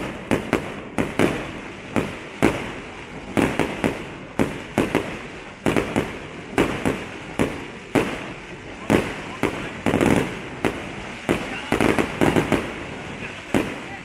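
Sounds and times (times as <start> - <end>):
fireworks bursting with sharp bangs: 0.0 - 14.0.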